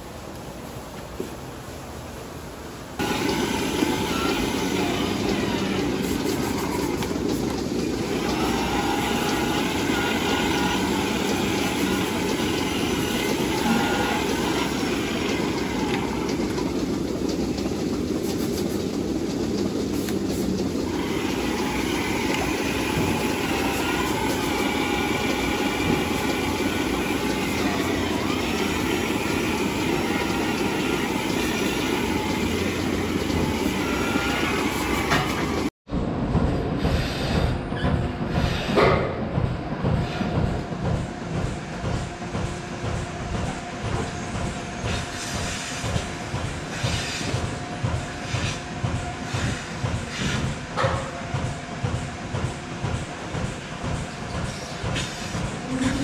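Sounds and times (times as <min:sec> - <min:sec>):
milking machinery humming and hissing: 0:03.0 - 0:56.0.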